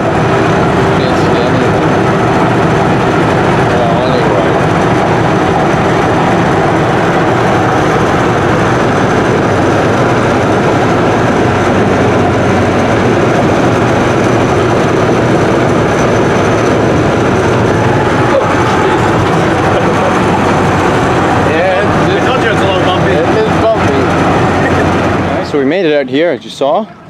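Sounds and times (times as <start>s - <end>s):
truck road and engine noise: 0.0s - 27.0s.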